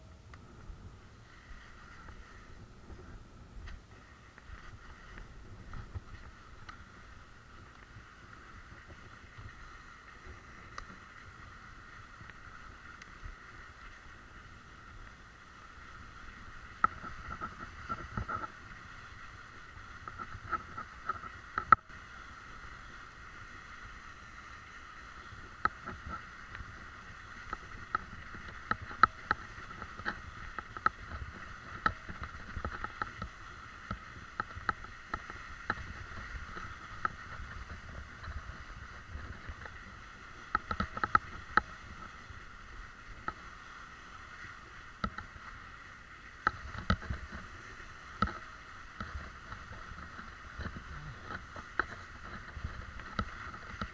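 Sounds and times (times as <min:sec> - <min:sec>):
bicycle tyres rolling on snow: 0:00.0 - 0:53.9.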